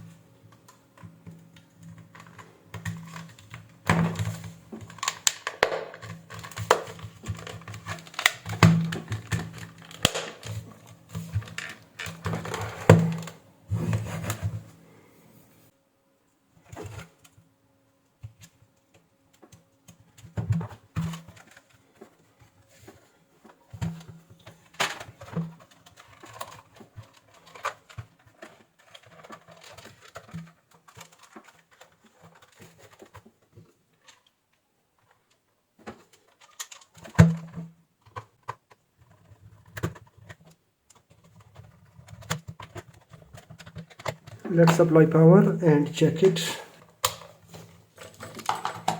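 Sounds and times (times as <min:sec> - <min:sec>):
plastic parts clicking and knocking: 0:00.0 - 0:14.6, 0:18.2 - 0:45.6, 0:46.2 - 0:48.9.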